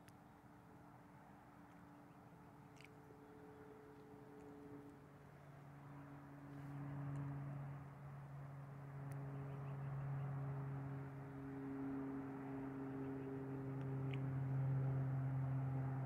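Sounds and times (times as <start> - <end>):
vehicle engine humming: 1.4 - 16.0.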